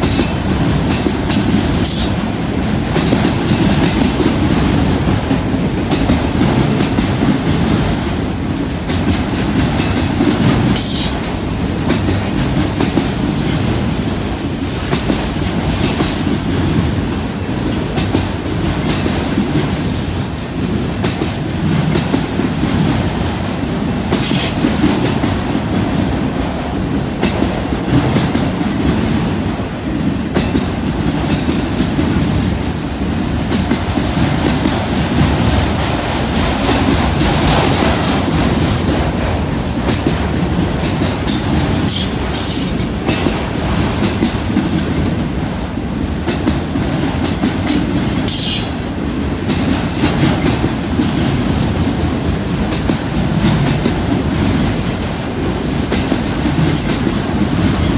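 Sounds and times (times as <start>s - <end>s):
train wheel clicks: 0.0s - 7.9s, 8.5s - 26.1s, 26.7s - 57.9s
train wheels rumbling on rails: 0.0s - 57.9s.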